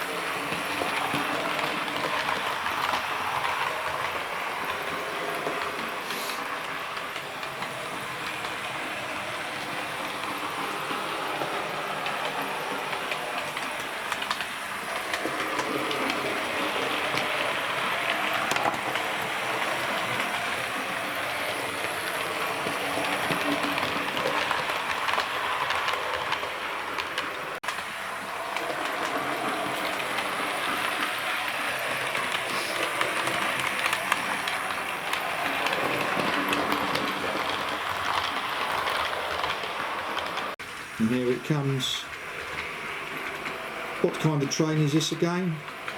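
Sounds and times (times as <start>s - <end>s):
model train wheels clicking on rails: 0.0s - 45.9s.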